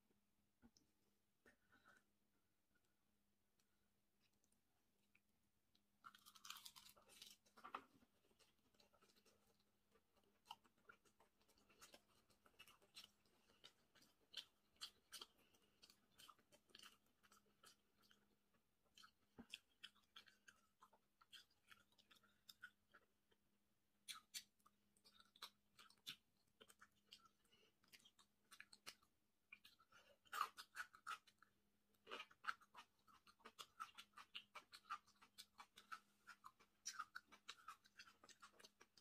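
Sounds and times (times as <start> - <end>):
person chewing with mouth clicks: 4.2 - 23.4, 24.0 - 39.0.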